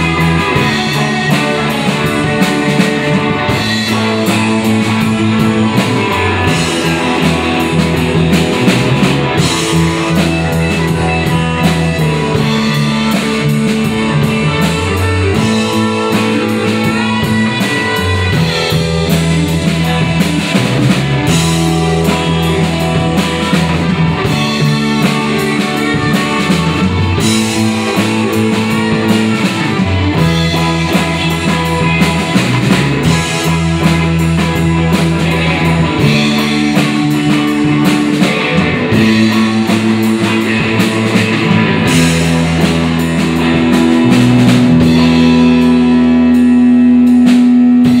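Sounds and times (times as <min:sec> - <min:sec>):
bass guitar: 0:00.0 - 0:48.0
drum kit: 0:00.0 - 0:48.0
electric guitars: 0:00.0 - 0:48.0.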